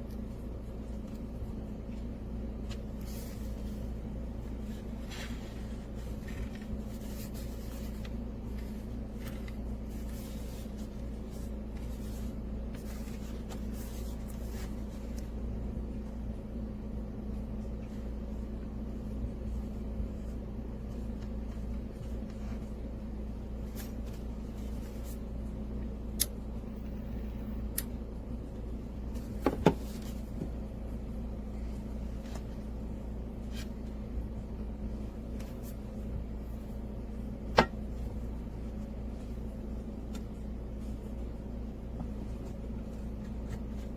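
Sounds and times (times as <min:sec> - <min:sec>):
low mechanical hum: 0:00.0 - 0:43.9.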